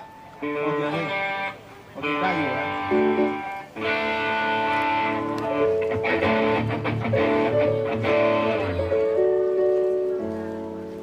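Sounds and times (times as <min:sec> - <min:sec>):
amplified guitar chords: 0:00.0 - 0:11.0.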